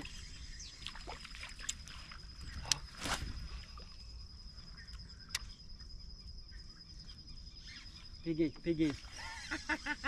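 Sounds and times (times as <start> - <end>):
insect high-pitched trill: 0.0 - 10.0.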